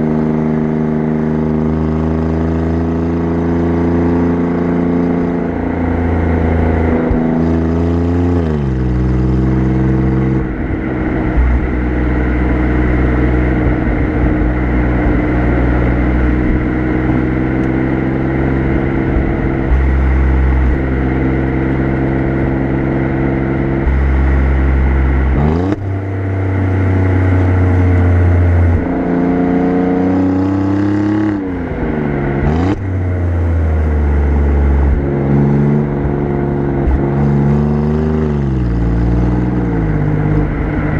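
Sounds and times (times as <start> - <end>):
car exhaust engine note: 0.0 - 40.9.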